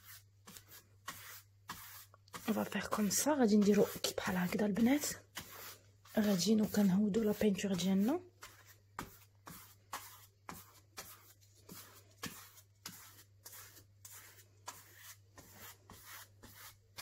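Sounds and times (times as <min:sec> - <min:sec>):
paintbrush strokes on canvas: 0:00.0 - 0:17.0.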